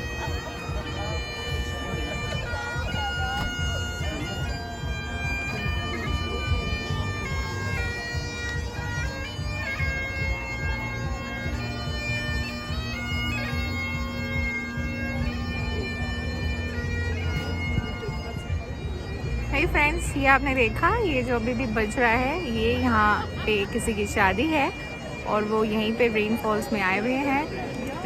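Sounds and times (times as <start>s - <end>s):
bagpipes playing: 0.0s - 28.0s.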